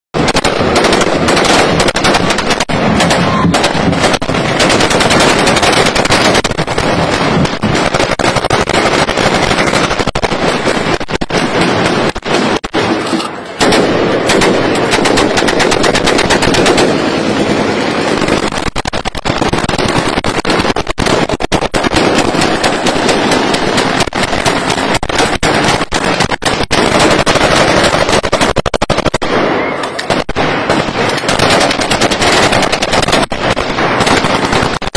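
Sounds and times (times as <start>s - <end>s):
heavy gunfire: 0.2s - 34.9s.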